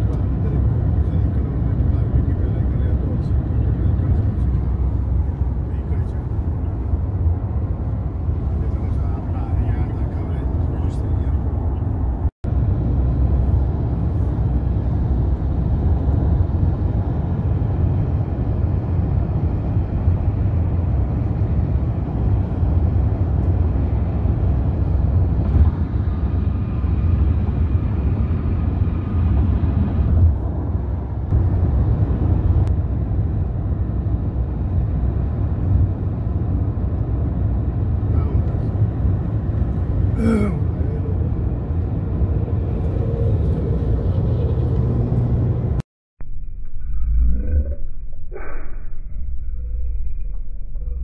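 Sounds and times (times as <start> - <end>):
car cabin road noise: 0.0 - 45.8.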